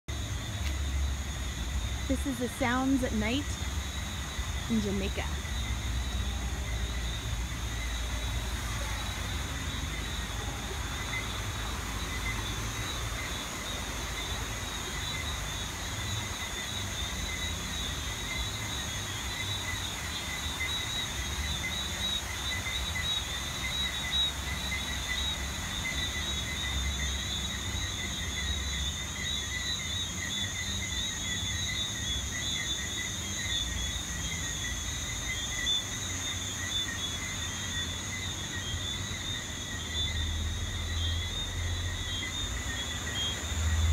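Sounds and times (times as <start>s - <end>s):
crickets and insects chirring: 0.0s - 43.9s.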